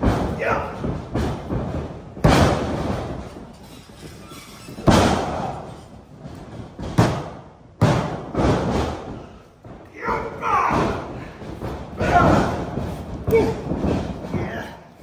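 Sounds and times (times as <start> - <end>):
bodies slamming onto mat: 0.0 - 3.5, 4.7 - 14.6.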